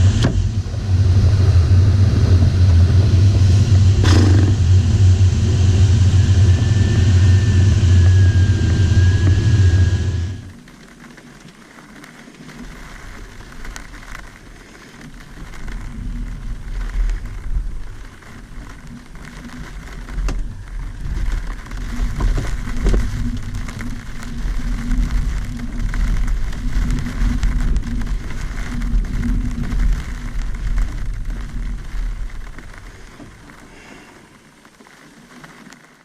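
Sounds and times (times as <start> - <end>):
glider cockpit rumbling and rattling: 0.0 - 11.0, 12.5 - 33.7.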